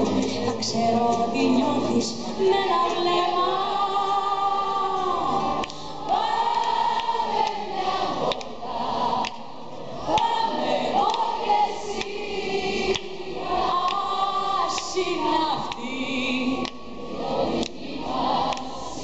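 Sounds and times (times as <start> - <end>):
crowd singing along: 0.0 - 19.0.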